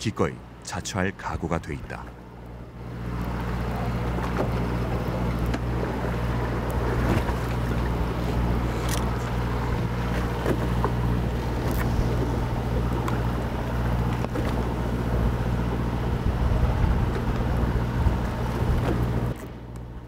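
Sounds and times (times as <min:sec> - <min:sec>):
boat engine humming: 0:00.0 - 0:20.0
water noise: 0:00.0 - 0:20.0
wind: 0:00.0 - 0:20.0.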